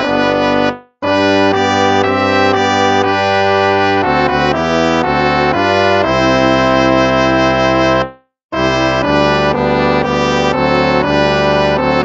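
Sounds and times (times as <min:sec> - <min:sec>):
brass hymn chords: 0:00.0 - 0:12.0.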